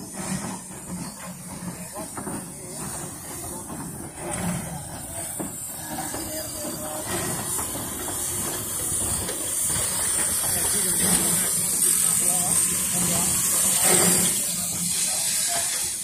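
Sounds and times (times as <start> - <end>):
high steam hiss: 0.0 - 16.0
locomotive low rumble: 0.0 - 16.0.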